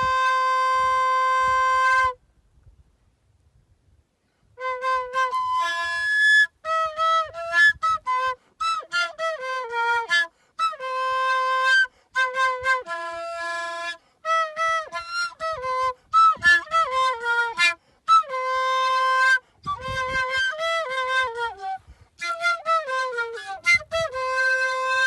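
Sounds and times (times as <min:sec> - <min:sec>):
solo flute: 0:00.0 - 0:02.2, 0:04.4 - 0:25.0.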